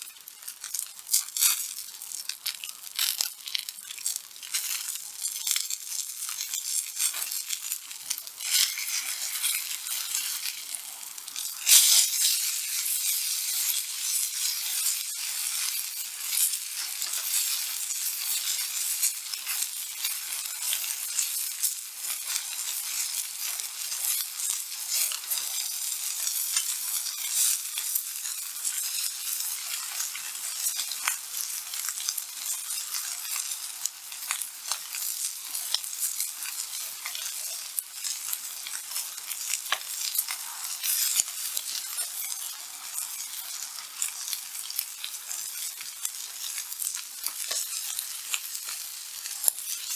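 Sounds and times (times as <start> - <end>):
steak sizzling on a griddle: 0.0 - 49.9.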